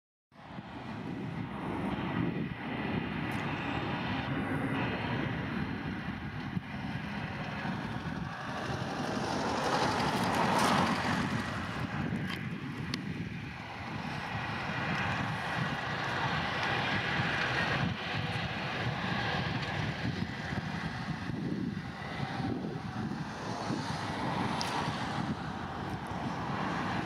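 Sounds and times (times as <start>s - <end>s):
jet engines running: 0.4s - 27.0s.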